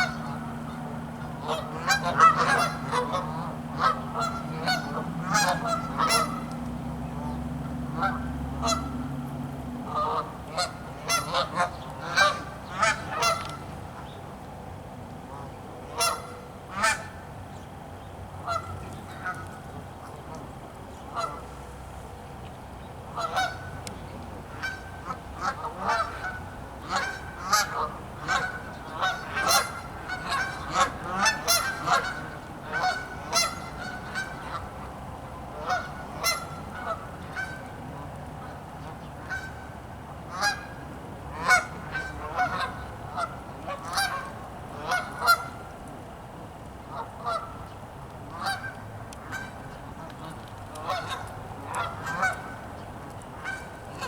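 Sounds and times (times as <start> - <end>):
geese honking: 0.0 - 9.1, 9.8 - 14.1, 15.3 - 17.2, 18.4 - 20.4, 21.0 - 21.6, 23.1 - 45.8, 46.9 - 47.7, 48.3 - 52.8, 53.4 - 54.0.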